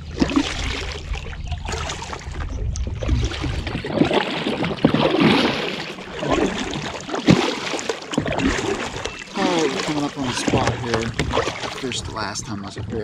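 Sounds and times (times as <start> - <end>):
paddle pulling through water: 0.0 - 13.0
water dripping off paddle: 0.2 - 12.0.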